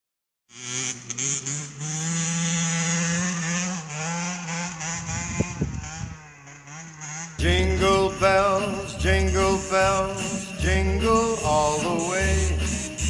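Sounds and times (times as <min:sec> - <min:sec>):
two-stroke engine buzzing at high revs: 0:00.5 - 0:13.0.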